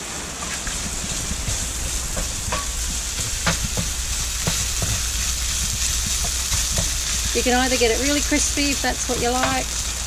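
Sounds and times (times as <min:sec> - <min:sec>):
bacon sizzling in frying pan: 0:00.0 - 0:10.0
wooden spoon knocking pan: 0:00.8 - 0:09.7.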